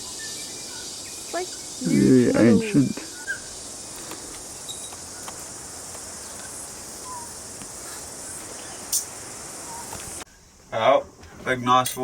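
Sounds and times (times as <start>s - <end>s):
faint bird chirps: 0.0s - 5.4s, 6.2s - 10.6s
high-pitched insect chorus: 0.0s - 12.0s.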